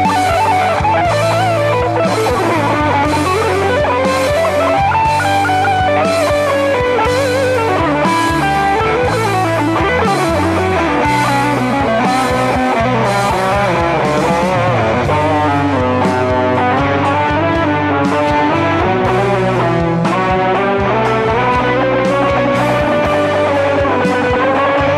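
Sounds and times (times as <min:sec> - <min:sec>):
bass guitar: 0:00.0 - 0:24.9
electric guitar lead melody: 0:00.0 - 0:24.9
steady drum beat: 0:00.0 - 0:24.9.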